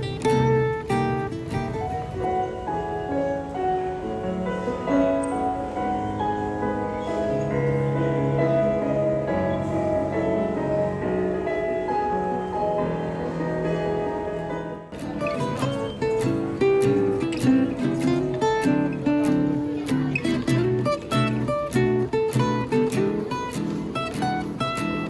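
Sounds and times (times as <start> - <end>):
electronic keyboard piano melody: 0.0 - 25.0.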